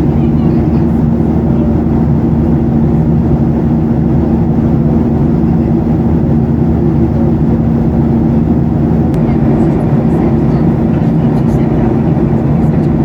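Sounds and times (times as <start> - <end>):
airplane cabin engine rumble: 0.0 - 13.0
steady hum: 0.0 - 13.0.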